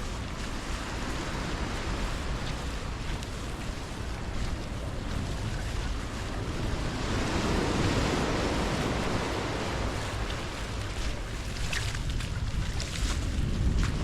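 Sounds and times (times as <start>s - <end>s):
surf breaking on a beach: 0.0s - 14.0s
wind buffeting the microphone: 0.0s - 14.0s.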